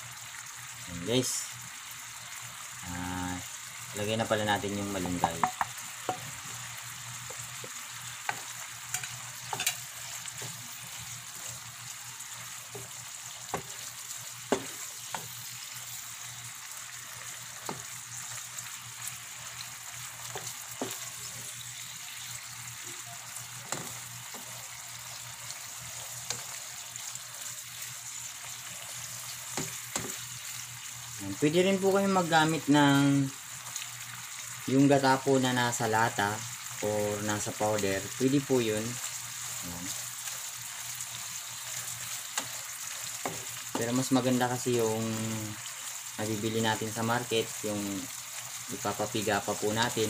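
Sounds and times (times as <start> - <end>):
coconut milk sizzling: 0.0 - 50.0.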